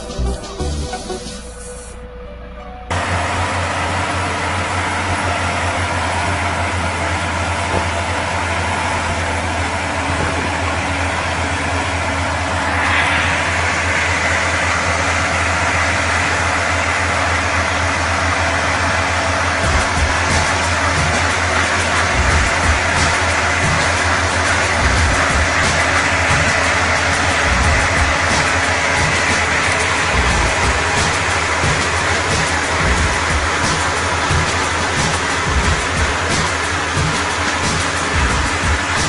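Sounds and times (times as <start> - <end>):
heavy vehicle engine drone: 0.0 - 39.0
broad rushing noise: 2.9 - 39.0.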